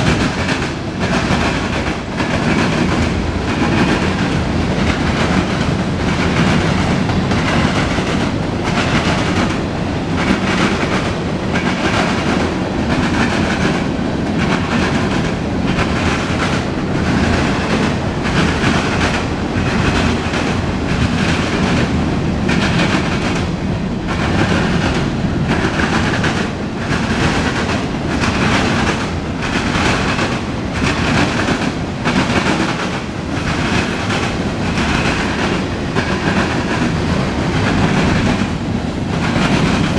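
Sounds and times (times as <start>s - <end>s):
train wheels rumbling on rail: 0.0s - 39.9s
wheels clickety-clack: 0.0s - 39.9s.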